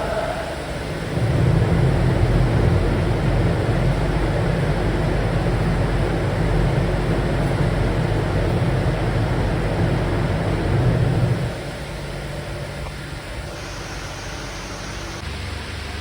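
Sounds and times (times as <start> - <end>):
low fan hum: 0.0 - 16.0
ventilation fan rush of air: 0.0 - 16.0.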